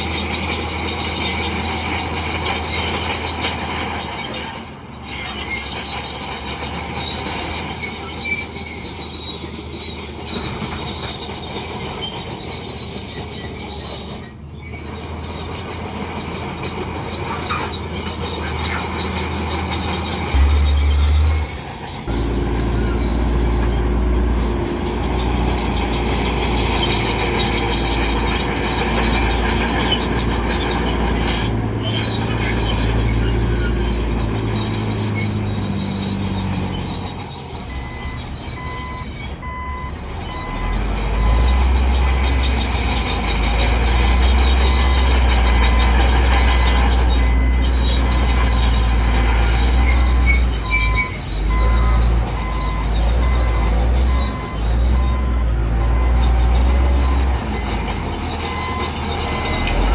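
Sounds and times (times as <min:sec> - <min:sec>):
bulldozer diesel engine running: 0:00.0 - 0:59.9
steel tracks squealing: 0:00.0 - 0:59.9.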